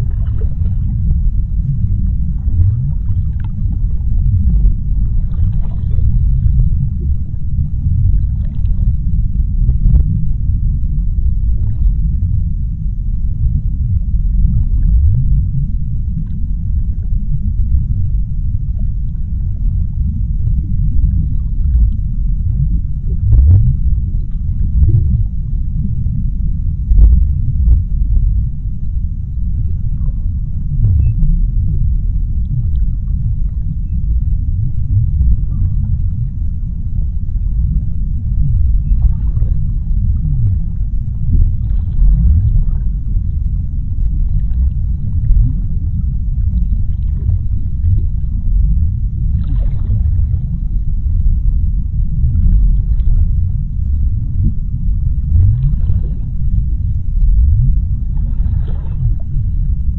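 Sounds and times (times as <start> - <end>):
deep underwater rumble: 0.0 - 59.9.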